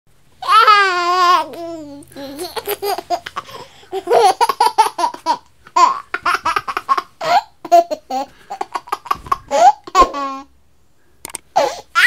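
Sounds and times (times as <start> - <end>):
baby laughing: 0.4 - 10.5, 11.6 - 12.0.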